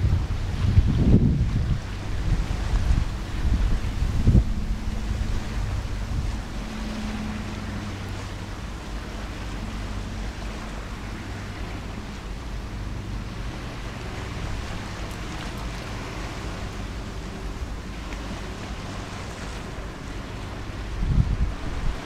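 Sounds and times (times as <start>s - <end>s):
distant boat engine hum: 0.0s - 22.0s
water noise: 0.0s - 22.0s
wind on microphone: 0.0s - 22.0s.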